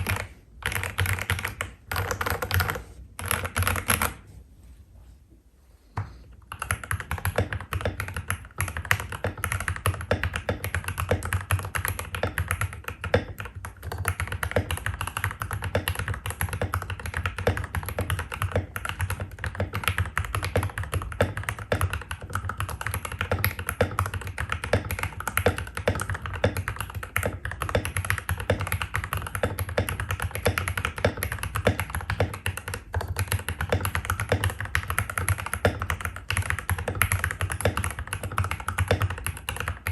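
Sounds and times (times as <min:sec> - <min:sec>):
fast typing on mechanical keyboard: 0:00.0 - 0:04.2, 0:06.5 - 0:39.9.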